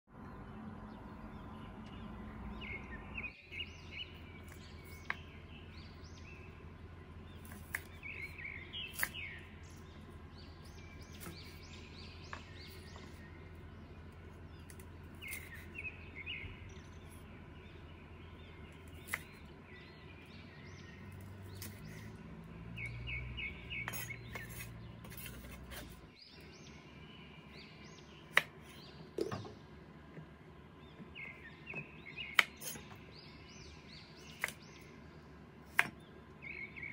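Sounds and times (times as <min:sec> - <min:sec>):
birds chirping: 0:00.1 - 0:36.9
steady low hum: 0:00.1 - 0:36.9.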